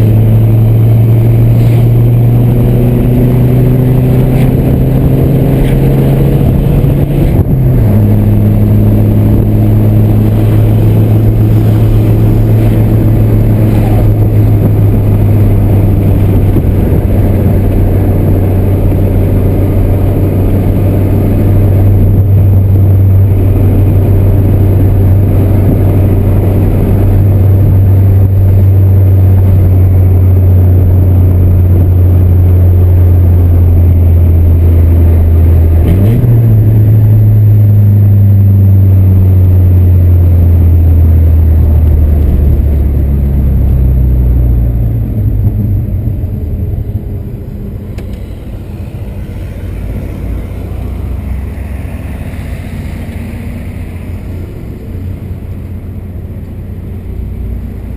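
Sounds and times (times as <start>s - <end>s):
car engine droning: 0.0s - 57.9s.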